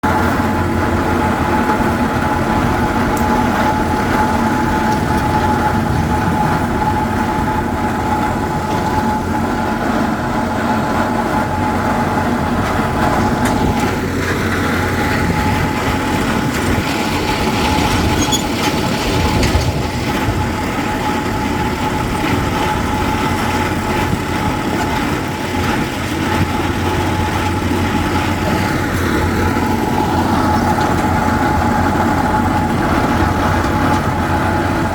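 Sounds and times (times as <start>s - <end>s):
engine drone: 0.0s - 34.9s
steady whine: 0.0s - 34.9s.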